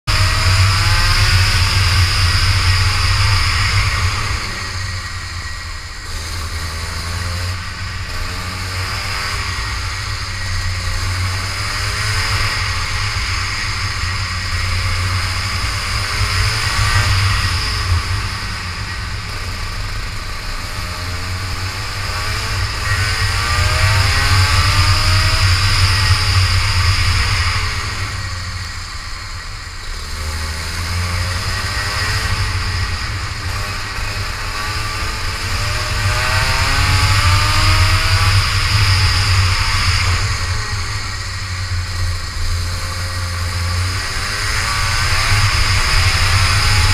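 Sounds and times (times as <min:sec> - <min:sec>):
kart engine revving: 0:00.0 - 0:46.9
wind and track spray hiss: 0:00.1 - 0:46.9.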